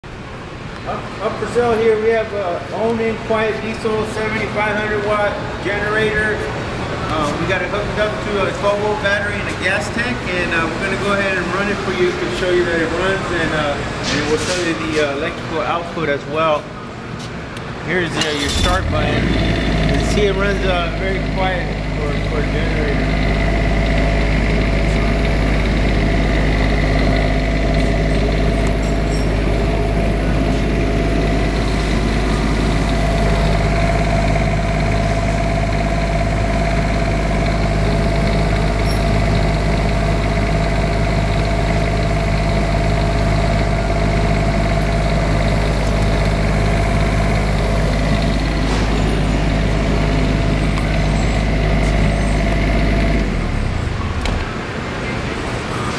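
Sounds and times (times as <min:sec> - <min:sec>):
diesel generator running: 0:00.0 - 0:55.9.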